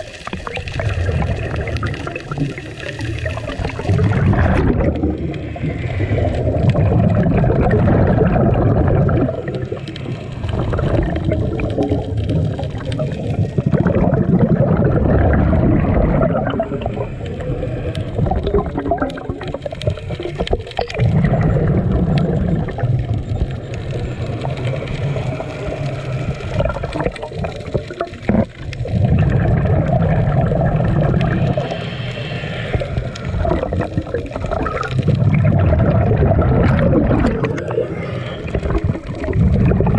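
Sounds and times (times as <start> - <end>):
underwater exhaled air bubbling: 0.0 - 39.9.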